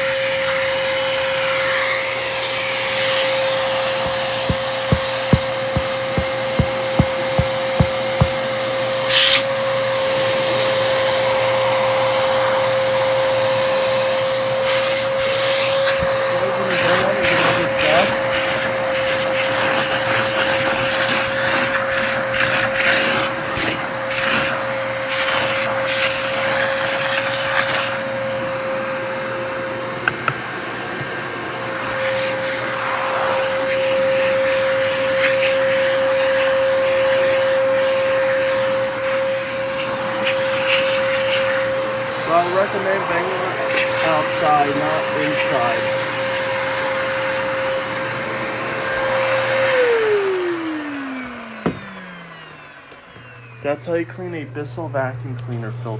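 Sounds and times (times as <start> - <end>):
vacuum cleaner whining: 0.0 - 55.9.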